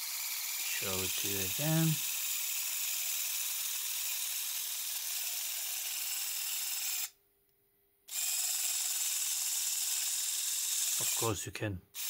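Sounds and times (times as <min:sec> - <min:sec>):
small motor whirring: 0:00.0 - 0:07.2, 0:08.1 - 0:11.4.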